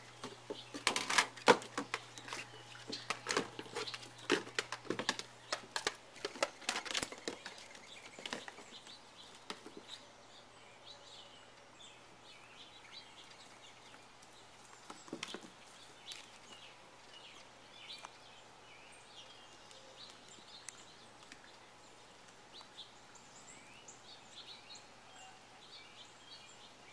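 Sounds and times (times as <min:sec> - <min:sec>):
faint birds chirping: 0:00.0 - 0:26.9
outdoor background noise: 0:00.0 - 0:26.9.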